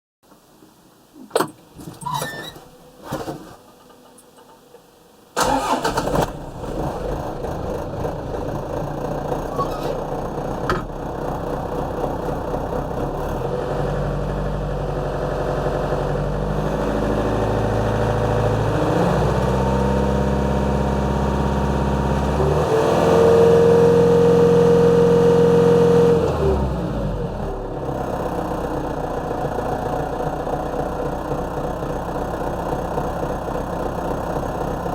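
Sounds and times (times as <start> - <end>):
tractor diesel engine running: 5.4 - 22.6, 23.3 - 34.9.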